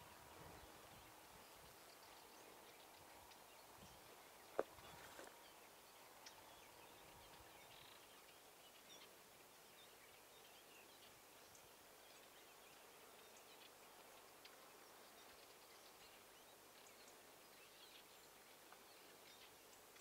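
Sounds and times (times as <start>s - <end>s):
faint outdoor ambience: 0.0s - 20.0s.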